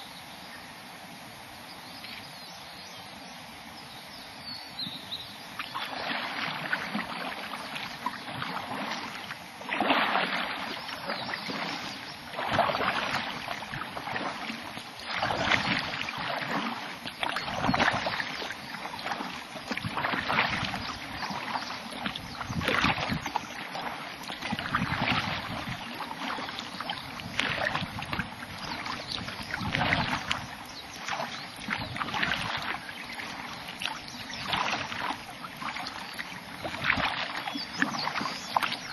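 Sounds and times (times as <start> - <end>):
paddle strokes in water: 5.4 - 38.9.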